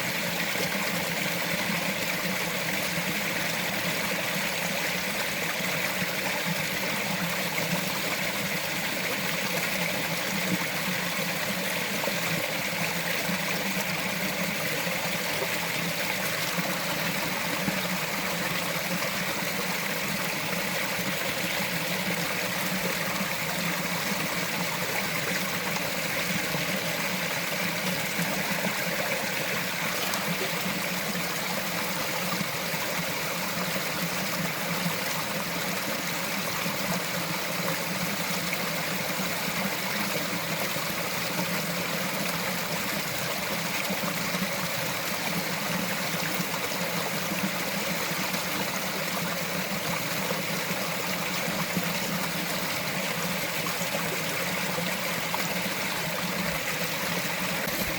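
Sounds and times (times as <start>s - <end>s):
stream trickling over rocks: 0.0s - 57.9s.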